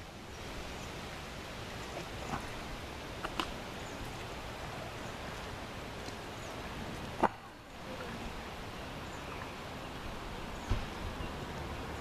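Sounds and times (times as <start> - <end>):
soft steady hiss: 0.0 - 12.0.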